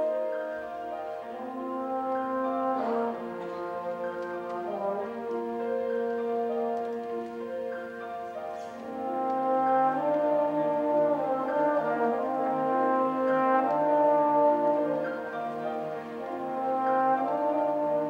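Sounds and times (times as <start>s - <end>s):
orchestral accompaniment: 0.0s - 18.0s
trombone playing slow melody: 0.0s - 18.0s.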